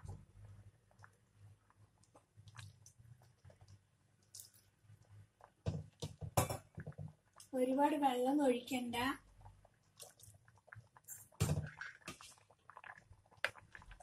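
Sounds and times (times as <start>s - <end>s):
curry bubbling in a pot: 0.0s - 14.0s.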